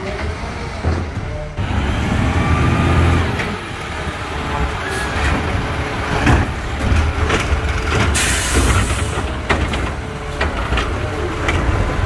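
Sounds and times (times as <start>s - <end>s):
garbage truck diesel engine: 0.0s - 12.0s.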